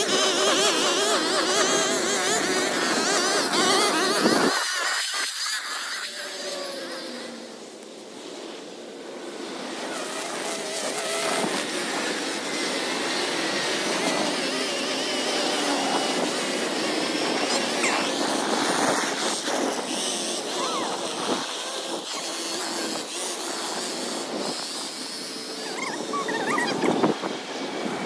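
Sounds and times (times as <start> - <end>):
small gas engine running: 0.0 - 28.0.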